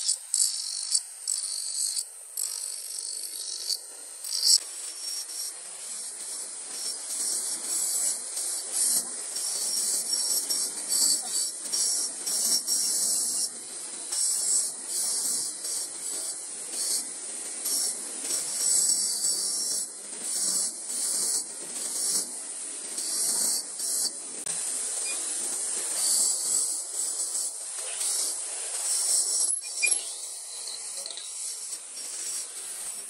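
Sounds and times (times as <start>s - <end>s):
wire brush wheel scrubbing metal: 0.0s - 33.0s.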